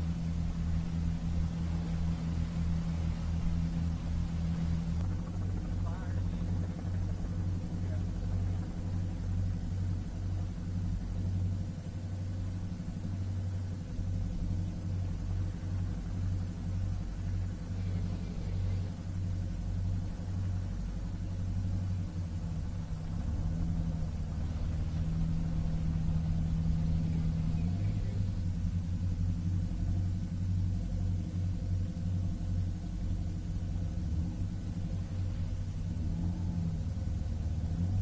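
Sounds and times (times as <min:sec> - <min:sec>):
higher engine tone: 0:00.0 - 0:38.0
motorboat engine rumble: 0:00.0 - 0:38.0.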